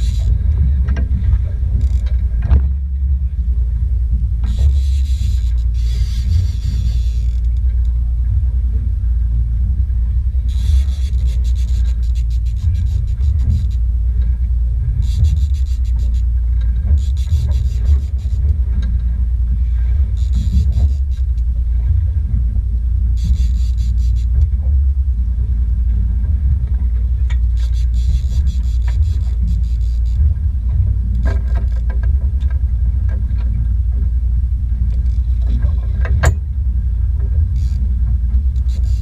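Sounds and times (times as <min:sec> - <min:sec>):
boat engine rumble: 0:00.0 - 0:39.0.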